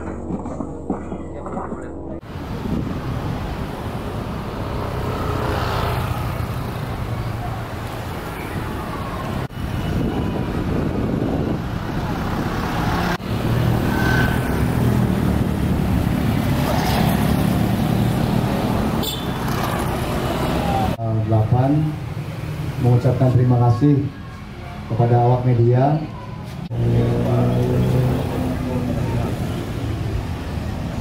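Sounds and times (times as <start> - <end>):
motorbike passing: 0.0 - 21.0, 26.7 - 31.0
cars passing: 0.0 - 31.0.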